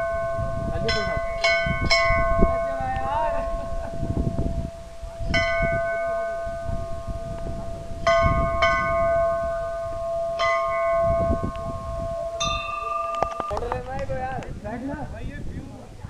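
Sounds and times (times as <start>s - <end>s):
metal temple bell ringing: 0.0s - 13.8s.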